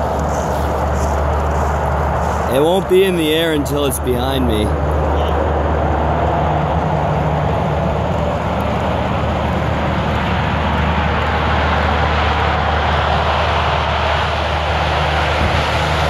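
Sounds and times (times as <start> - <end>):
turboprop propeller drone: 0.0 - 16.0.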